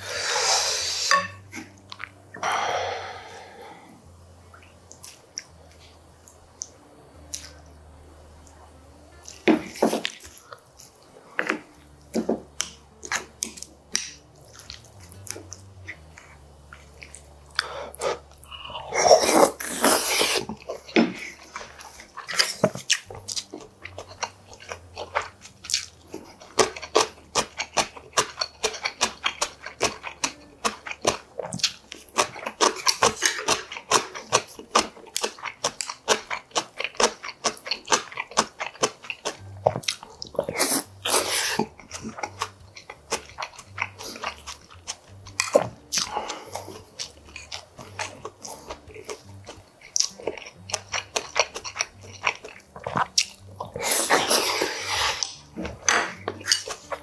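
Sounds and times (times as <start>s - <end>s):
man chewing crunchy food: 8.4s - 57.0s.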